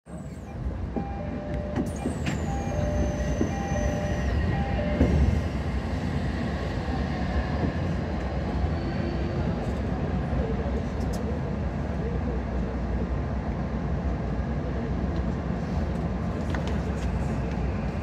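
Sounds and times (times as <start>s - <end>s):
train rumble: 0.1s - 18.0s.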